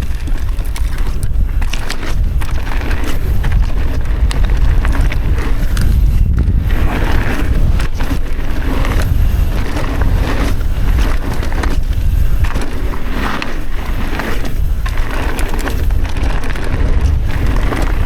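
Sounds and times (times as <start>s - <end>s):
bike clicks and rattles: 0.0s - 18.0s
tyres rolling over dirt: 0.0s - 18.0s
wind rushing over microphone: 0.0s - 18.0s.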